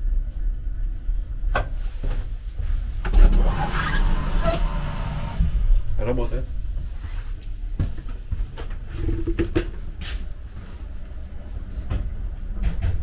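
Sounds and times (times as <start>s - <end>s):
ventilation fan rumbling: 0.0s - 13.0s.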